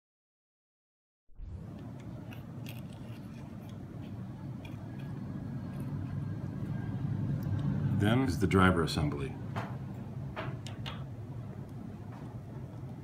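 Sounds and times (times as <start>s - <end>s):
steady low hum: 1.4s - 13.0s.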